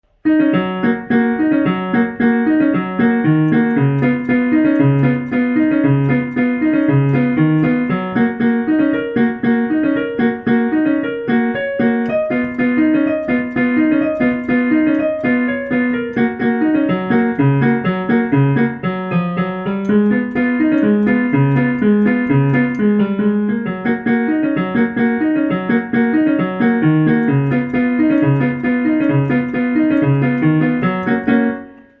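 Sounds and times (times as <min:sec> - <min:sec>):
lively piano piece: 0:00.0 - 0:32.0.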